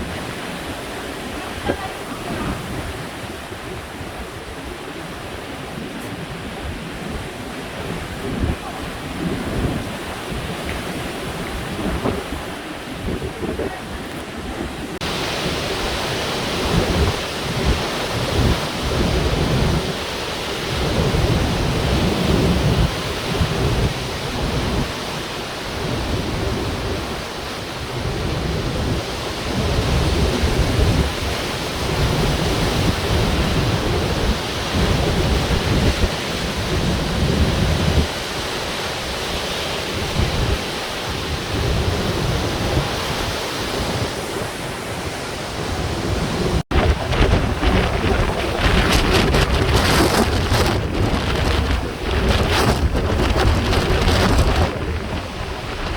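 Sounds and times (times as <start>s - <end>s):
heavy surf rushing: 0.0s - 55.9s
wind buffeting microphone: 0.0s - 55.9s.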